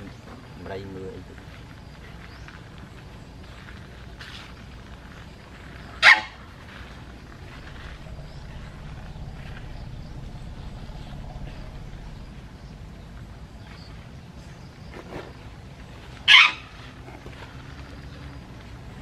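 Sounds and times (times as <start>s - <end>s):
faint rustles: 0.0s - 19.0s
low steady rumble: 0.0s - 19.0s.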